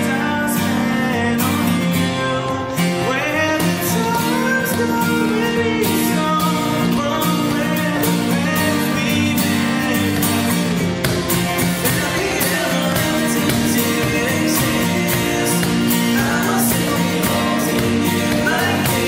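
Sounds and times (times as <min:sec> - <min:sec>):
acoustic guitars strumming: 0:00.0 - 0:19.0
man singing: 0:00.0 - 0:19.0.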